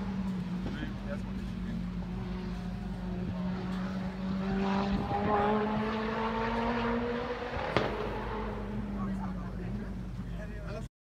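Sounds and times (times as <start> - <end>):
car engine accelerating: 0.0 - 10.4.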